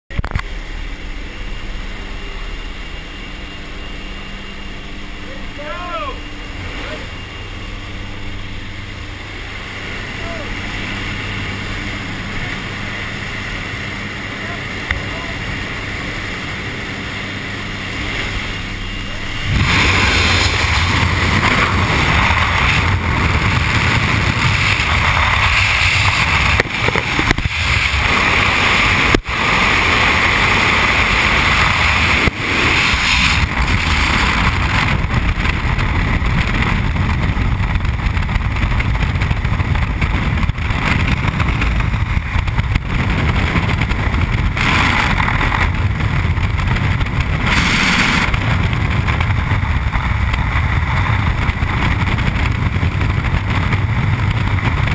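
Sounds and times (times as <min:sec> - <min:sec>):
freefall wind roaring on microphone: 0:00.1 - 0:54.9.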